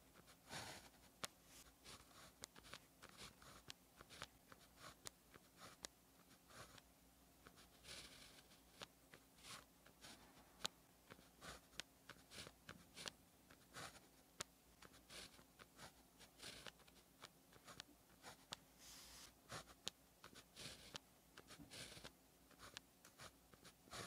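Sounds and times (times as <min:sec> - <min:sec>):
pen scratching on paper: 0:00.0 - 0:06.8, 0:07.4 - 0:14.2, 0:14.8 - 0:24.0.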